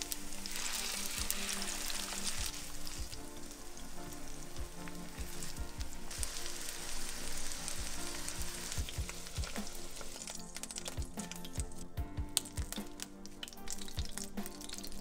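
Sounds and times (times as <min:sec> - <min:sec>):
cutlets sizzling in oil: 0:00.0 - 0:15.0.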